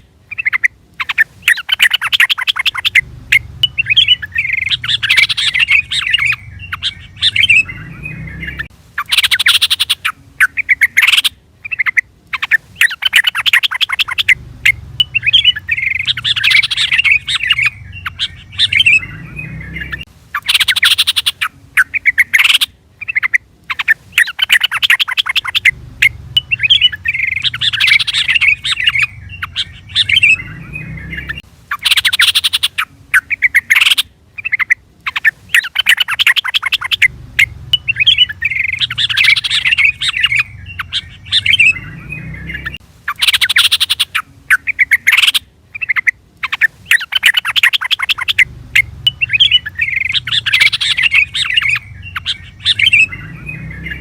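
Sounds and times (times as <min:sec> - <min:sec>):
bird chattering calls: 0:00.0 - 0:54.0.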